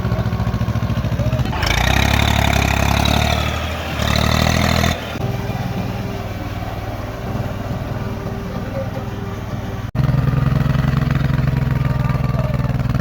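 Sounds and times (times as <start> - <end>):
tractor engines running: 0.0 - 13.0.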